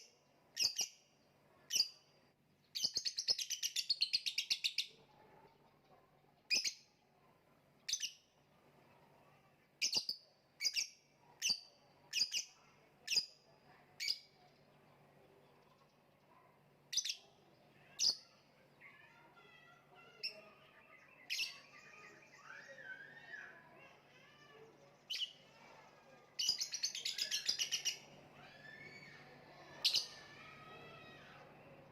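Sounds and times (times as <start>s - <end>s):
faint bird chattering: 0.0s - 2.1s, 2.7s - 31.9s.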